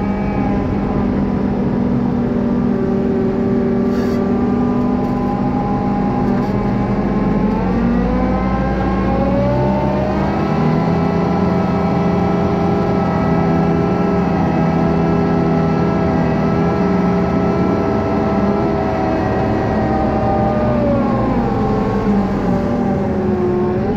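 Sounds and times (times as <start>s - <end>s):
farm machinery engine running: 0.0s - 23.9s.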